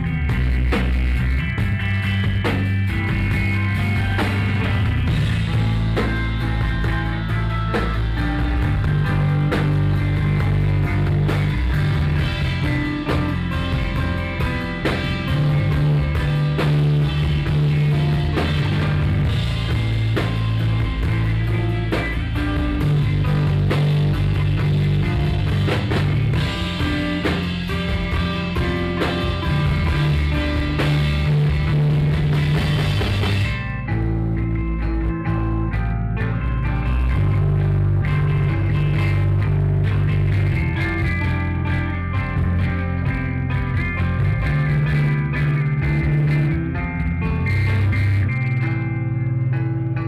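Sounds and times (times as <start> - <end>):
rock band playing live: 0.0 - 50.0.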